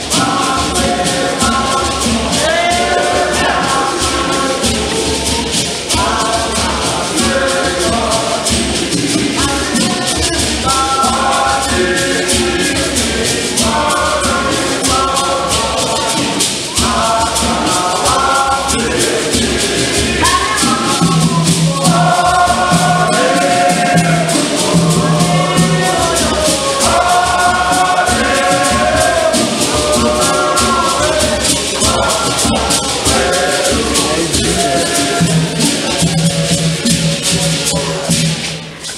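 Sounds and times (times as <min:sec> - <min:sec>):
men's choir singing a hymn: 0:00.0 - 0:38.6
gourd shakers rattling: 0:00.0 - 0:38.9
hand drum: 0:00.0 - 0:38.9.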